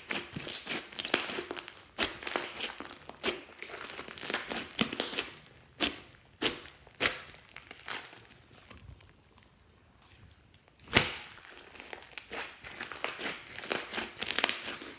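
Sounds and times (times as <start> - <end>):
slime squelching and popping: 0.0 - 9.6, 10.3 - 14.9.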